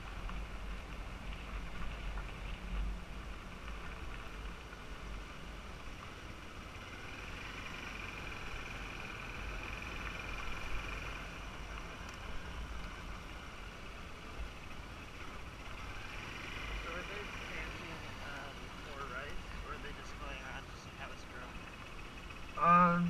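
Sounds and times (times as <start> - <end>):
motorbike engine: 0.0 - 23.0
road noise: 0.0 - 23.0.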